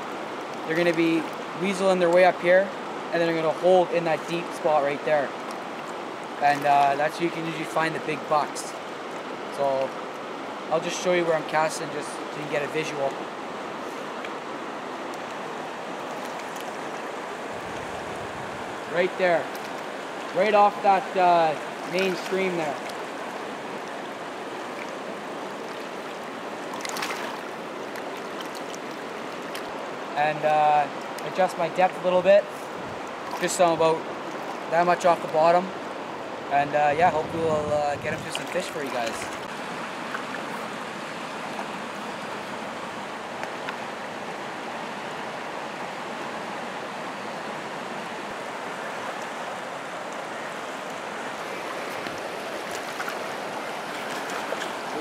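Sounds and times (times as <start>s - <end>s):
water splashing: 0.0s - 46.2s, 47.6s - 55.0s
river water rushing: 0.0s - 55.0s.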